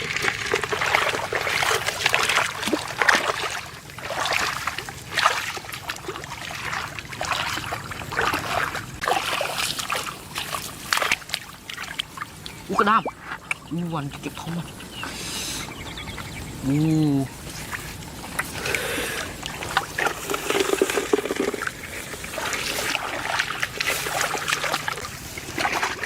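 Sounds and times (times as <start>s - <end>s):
shallow water splashing: 0.0s - 26.0s.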